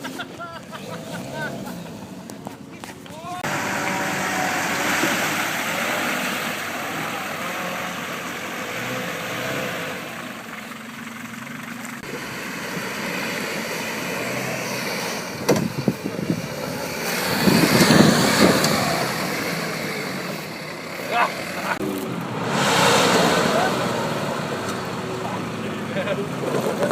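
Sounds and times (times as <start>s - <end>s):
off-road vehicle engine running: 0.0s - 26.9s.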